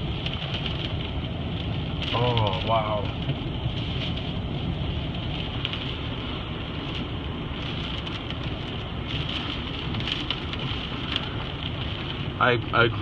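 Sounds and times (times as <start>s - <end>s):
car low rumble: 0.0s - 13.0s
rain and wind on a car: 0.0s - 13.0s.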